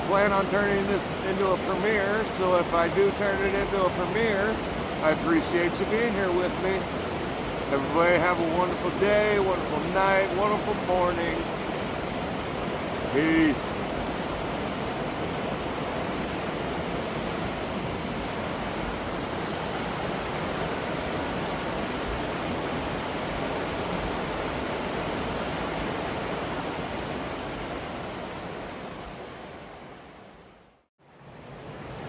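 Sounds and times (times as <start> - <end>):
waterfall rushing: 0.0 - 30.1.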